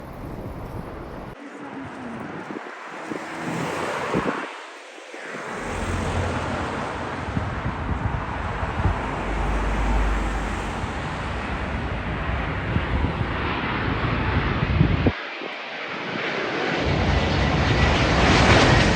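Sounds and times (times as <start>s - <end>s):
wind buffeting microphone: 0.0s - 15.6s
jet engines roaring: 0.0s - 18.9s.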